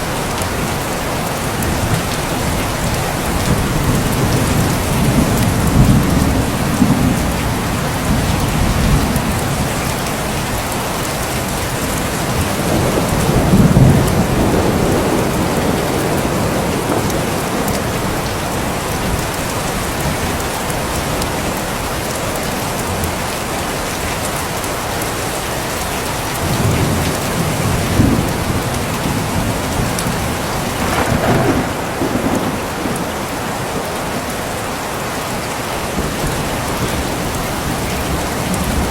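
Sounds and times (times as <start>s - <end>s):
thunder rumbling: 0.0s - 21.9s, 26.4s - 38.9s
heavy rain falling: 0.0s - 38.9s.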